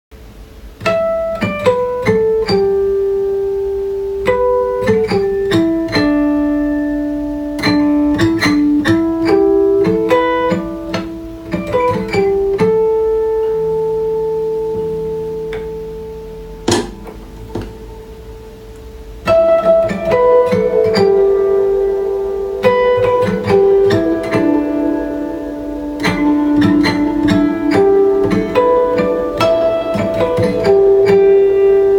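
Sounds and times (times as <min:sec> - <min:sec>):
acoustic guitar slow melody: 0:00.2 - 0:31.9.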